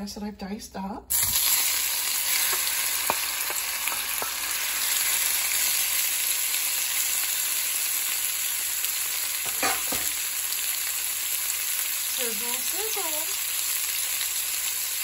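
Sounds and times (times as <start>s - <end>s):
chicken sizzling in hot oil: 1.1s - 15.0s.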